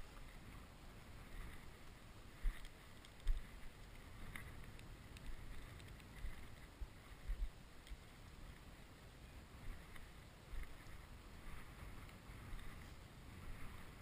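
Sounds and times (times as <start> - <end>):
crackles of dry stubble: 0.0 - 14.0
wind buffeting microphone: 0.0 - 14.0.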